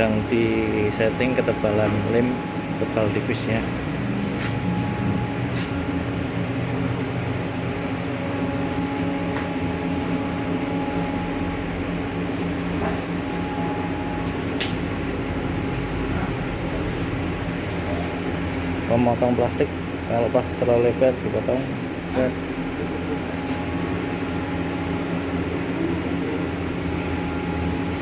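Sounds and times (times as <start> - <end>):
laminating machine humming: 0.0 - 28.0.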